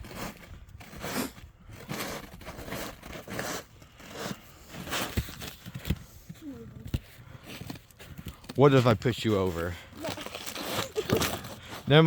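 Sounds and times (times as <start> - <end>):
crunching and scraping on icy snow: 0.0 - 12.0.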